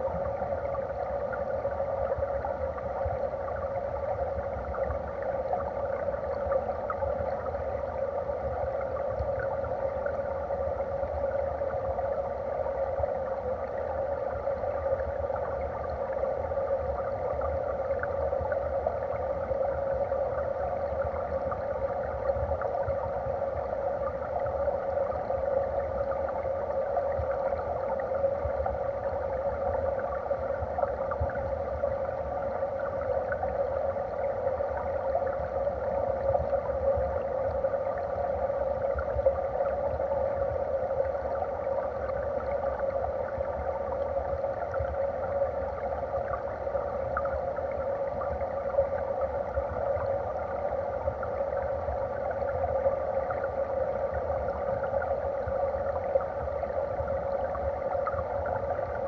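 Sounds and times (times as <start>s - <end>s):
faint ticks: 0.0s - 59.0s
underwater stream rush: 0.0s - 59.0s.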